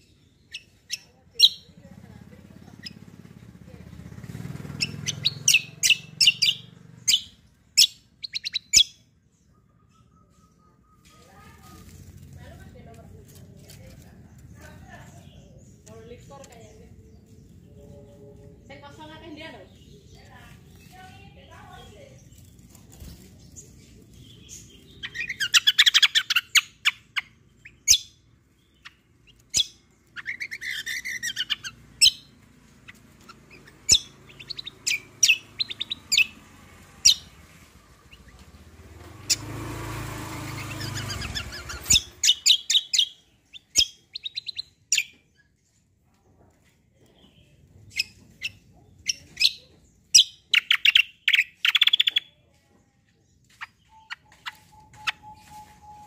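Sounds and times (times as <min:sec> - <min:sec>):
songbird chirping and trilling: 0:00.0 - 0:56.0.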